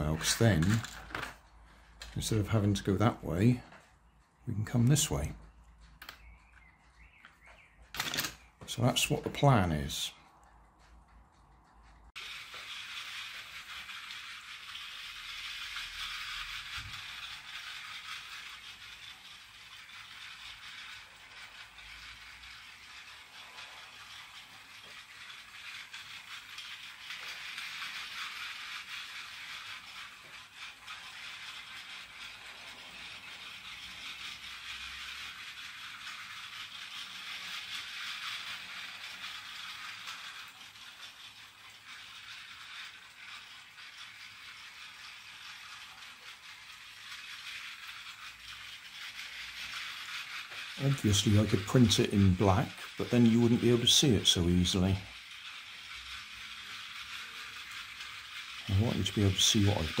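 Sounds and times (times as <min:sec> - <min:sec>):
toy train rattling on track: 0:00.0 - 1:00.0.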